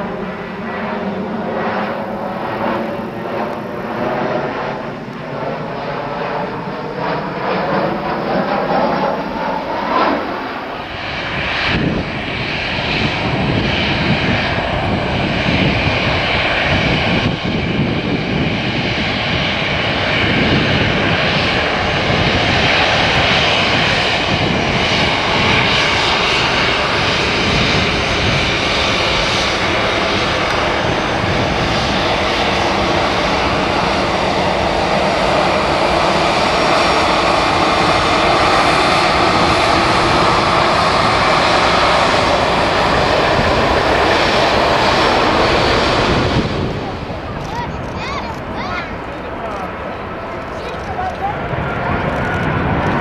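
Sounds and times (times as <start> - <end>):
jet engines running: 0.0 - 53.0.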